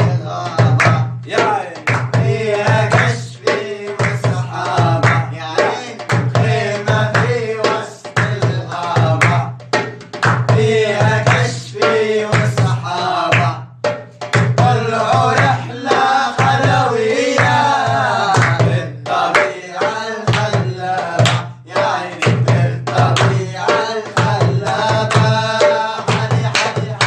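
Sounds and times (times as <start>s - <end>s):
group chanting in unison: 0.0s - 9.5s, 10.5s - 13.7s, 14.5s - 27.0s
steady drum beat: 0.0s - 27.0s.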